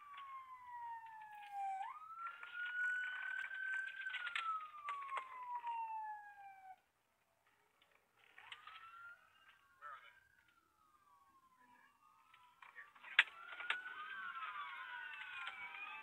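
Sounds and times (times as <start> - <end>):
police siren wailing: 0.0 - 16.0.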